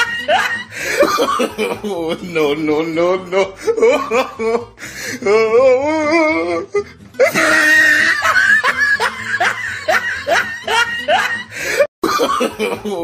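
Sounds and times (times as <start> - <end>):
background music: 0.0 - 13.0
person laughing: 0.0 - 13.0.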